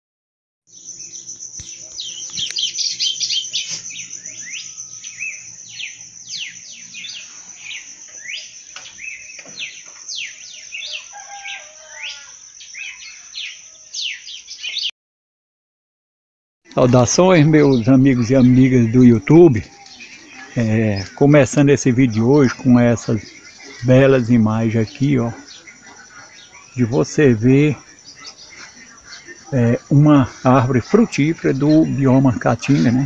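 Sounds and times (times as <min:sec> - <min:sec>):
birds chirping and twittering: 0:00.7 - 0:14.9, 0:16.7 - 0:33.0.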